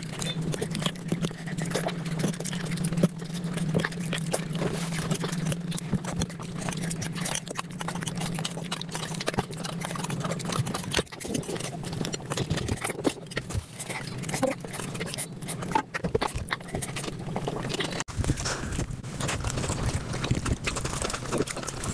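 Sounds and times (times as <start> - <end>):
fast chewing and smacking: 0.0 - 21.9
steady low hum: 0.0 - 21.9.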